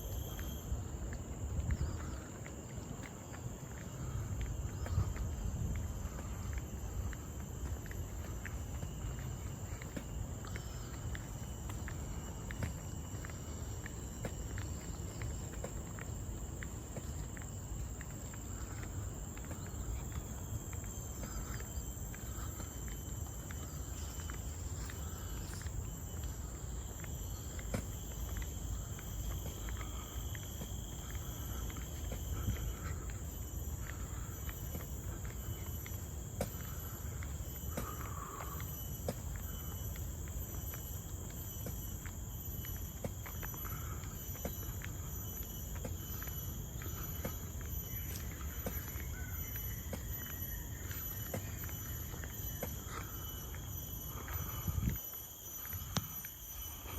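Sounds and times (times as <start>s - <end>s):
footsteps on trail: 0.0s - 56.9s
insect chorus: 0.0s - 56.9s.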